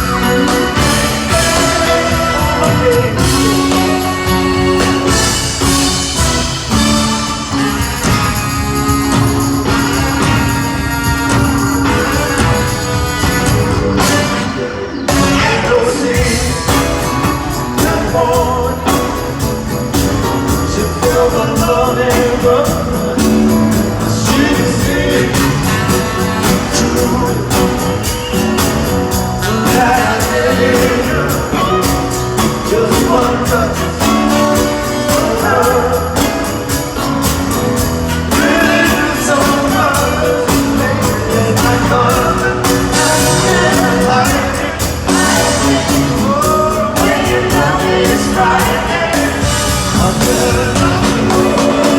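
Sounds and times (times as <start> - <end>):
person singing lead vocal: 0.0 - 6.8, 13.6 - 28.7, 29.4 - 51.9
live band playing ballad: 0.0 - 51.9.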